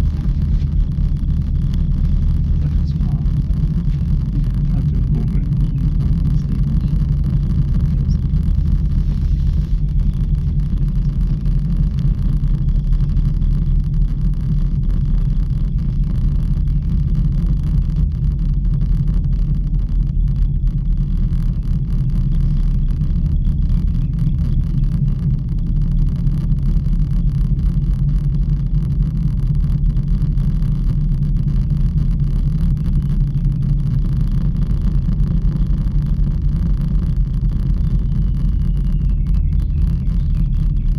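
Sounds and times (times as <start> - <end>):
gondola low rumble: 0.0 - 40.9.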